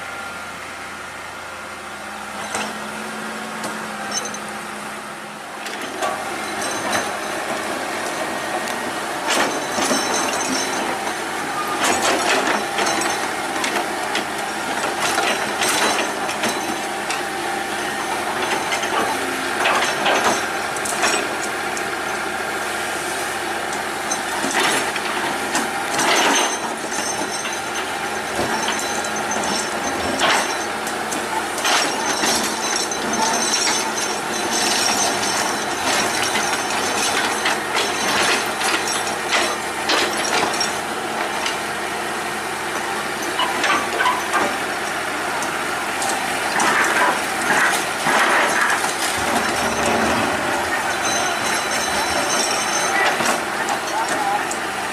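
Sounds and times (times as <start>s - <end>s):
excavator engine under load: 0.0s - 54.9s
rock and soil clanking: 5.5s - 54.9s.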